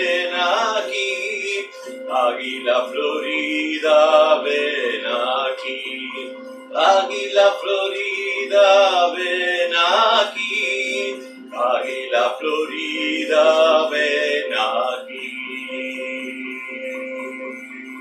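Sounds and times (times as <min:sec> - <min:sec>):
man chanting: 0:00.0 - 0:15.9
reed drone: 0:00.0 - 0:18.0.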